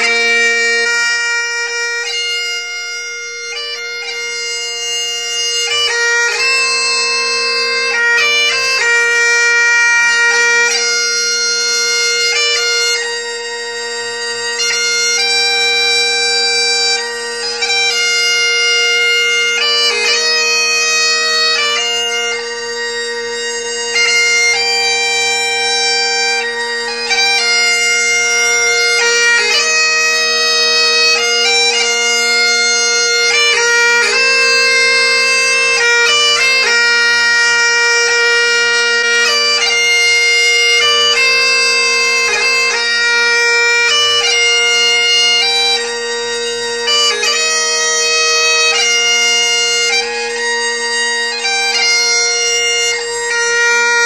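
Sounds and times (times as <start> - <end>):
bagpipe drones: 0.0 - 54.0
bagpipe melody: 0.0 - 54.0.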